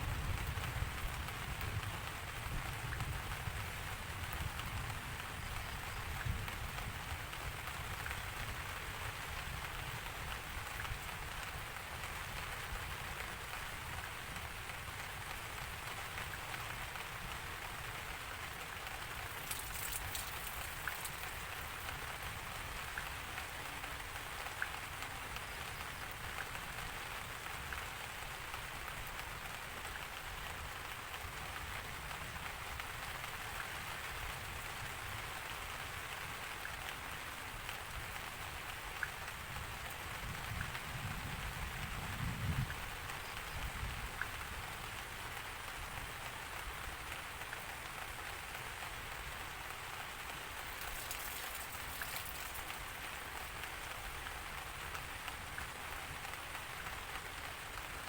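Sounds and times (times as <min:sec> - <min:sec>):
rain pattering on a surface: 0:00.0 - 0:58.0.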